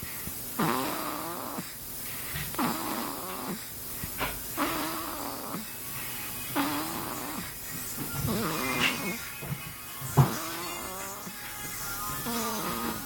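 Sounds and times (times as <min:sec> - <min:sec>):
baby snoring: 0:00.0 - 0:09.4, 0:10.2 - 0:11.4, 0:12.1 - 0:13.0.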